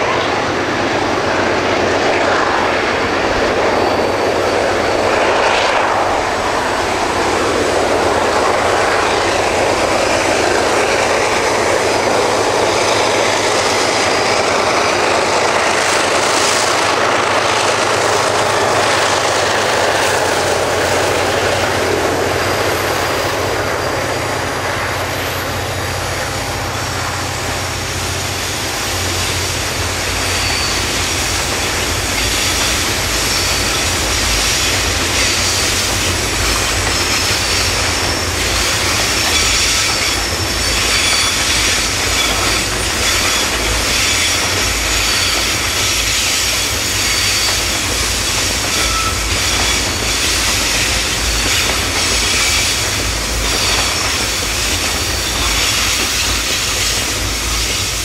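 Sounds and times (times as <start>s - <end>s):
diesel locomotives passing: 0.0s - 58.0s
wagons rumbling on rails: 0.0s - 58.0s.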